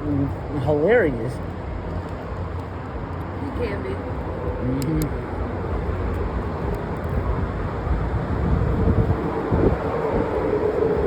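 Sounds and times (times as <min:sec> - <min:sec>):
low rumble of vehicle noise: 0:00.0 - 0:11.0.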